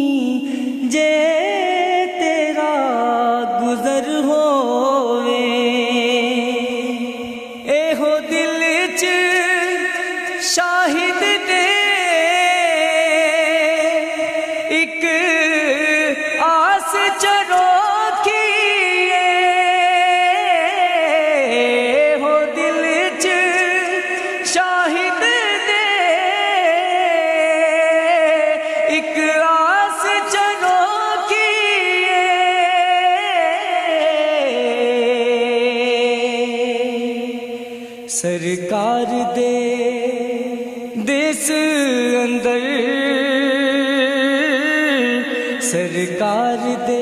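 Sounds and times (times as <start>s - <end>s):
person singing devotional song: 0.0s - 47.0s
wordless vocal with vibrato: 0.0s - 47.0s.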